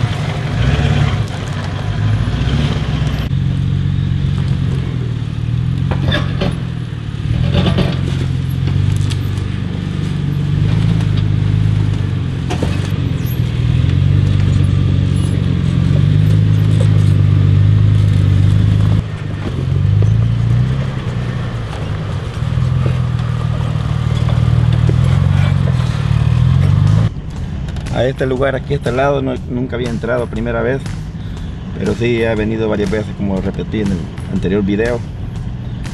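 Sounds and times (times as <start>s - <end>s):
engine running at low revs: 0.0s - 35.9s.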